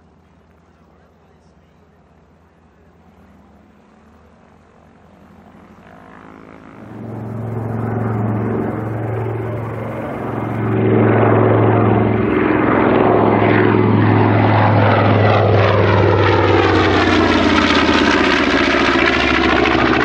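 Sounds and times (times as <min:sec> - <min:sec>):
propeller plane engines droning: 0:00.0 - 0:20.0.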